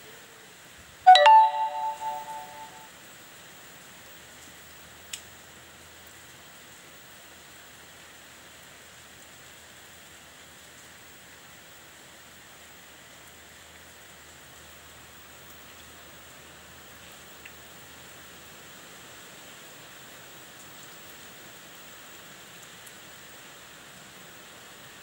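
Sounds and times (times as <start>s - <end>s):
steady rain hiss: 0.0s - 1.0s, 1.7s - 25.0s.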